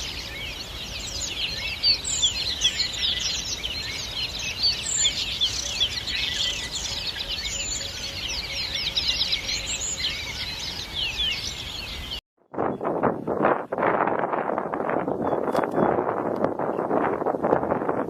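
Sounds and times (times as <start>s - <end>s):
flock of birds chirping: 0.0s - 13.0s, 14.4s - 18.0s.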